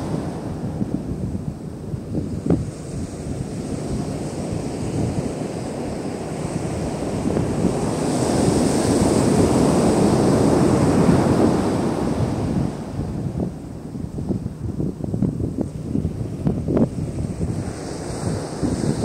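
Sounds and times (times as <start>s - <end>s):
sea surf washing on beach: 0.0s - 19.0s
wind rumbling on microphone: 0.0s - 19.0s.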